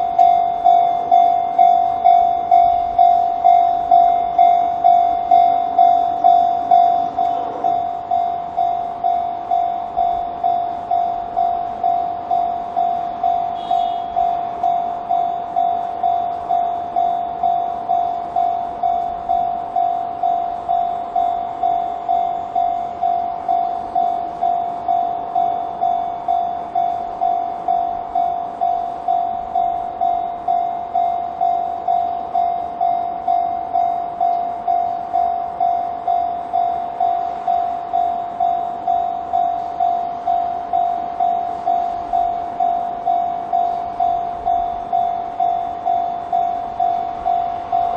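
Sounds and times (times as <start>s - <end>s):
level crossing alarm bell tone: 0.0s - 47.9s.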